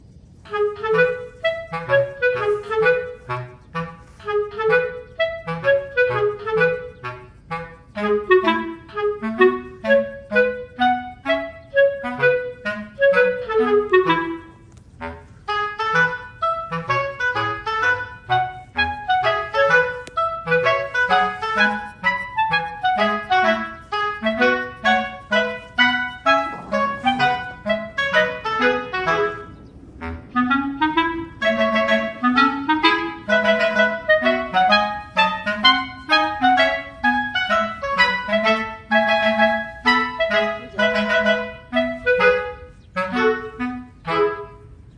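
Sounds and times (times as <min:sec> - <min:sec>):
light bouncy instrumental music: 0:00.5 - 0:44.8.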